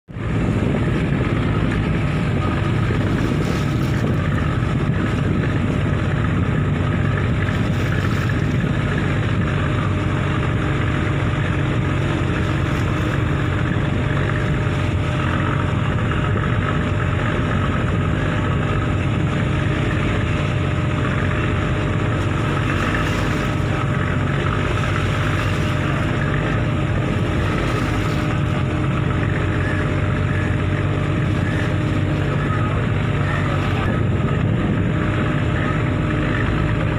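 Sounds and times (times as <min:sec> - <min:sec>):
ferry engine drone: 0:00.0 - 0:36.9
water and wind rushing: 0:00.0 - 0:36.9.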